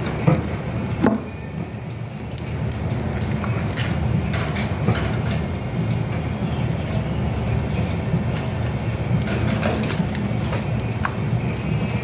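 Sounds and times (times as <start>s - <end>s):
low hum: 1.4s - 12.0s
chick peeping: 1.7s - 12.0s.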